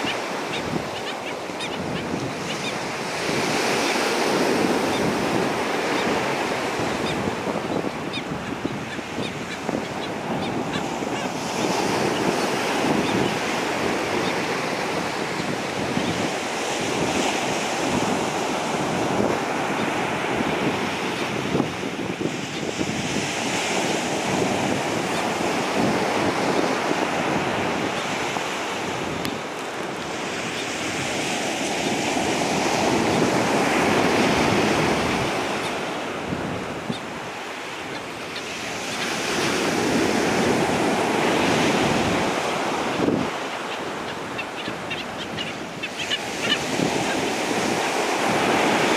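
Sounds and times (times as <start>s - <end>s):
ocean surf breaking: 0.0s - 48.9s
wind buffeting microphone: 0.0s - 48.9s.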